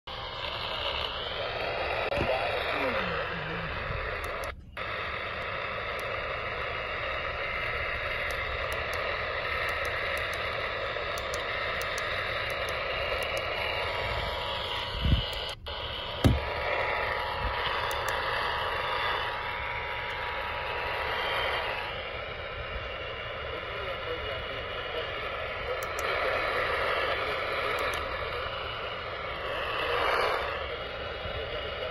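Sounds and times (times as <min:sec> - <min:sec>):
faint muffled radio station audio: 0:00.1 - 0:31.9
faint steady whistle: 0:00.1 - 0:31.9
radio hiss and static crackle: 0:00.1 - 0:31.9.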